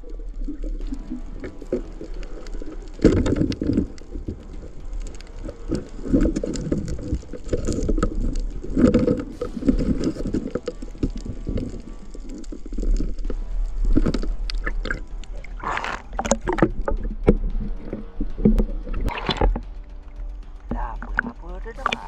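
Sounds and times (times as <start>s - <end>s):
crackling water surges: 0.0s - 22.0s
underwater water rushing: 0.0s - 22.0s.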